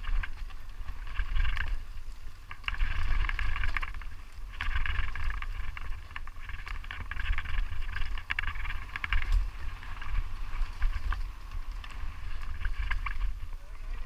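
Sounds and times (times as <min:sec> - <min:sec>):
crackling rattle with clicks: 0:00.0 - 0:14.0
wind buffeting microphone: 0:00.0 - 0:14.0.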